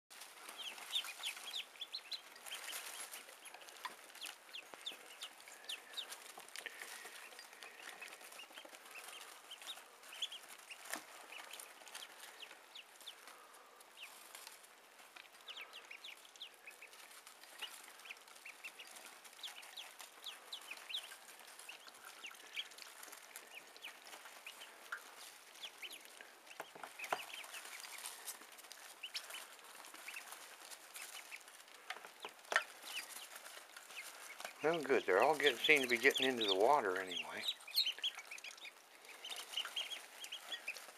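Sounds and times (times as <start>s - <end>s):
ducklings peeping: 0.1s - 40.9s.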